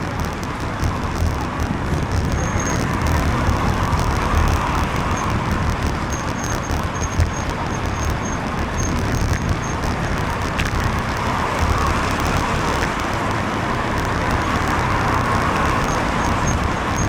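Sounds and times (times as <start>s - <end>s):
rain: 0.0s - 17.0s
traffic hiss on wet road: 0.0s - 17.0s
wind buffeting microphone: 0.0s - 17.0s.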